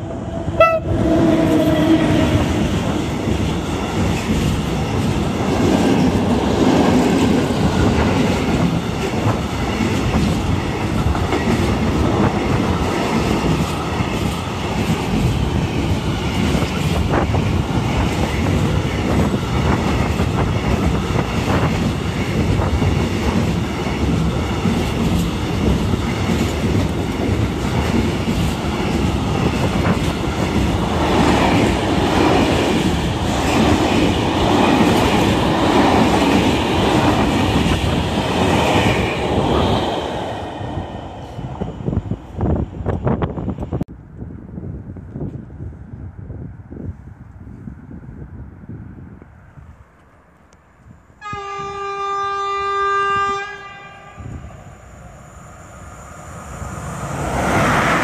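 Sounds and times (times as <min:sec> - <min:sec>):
train wheels rumbling on rails: 0:00.0 - 0:47.6.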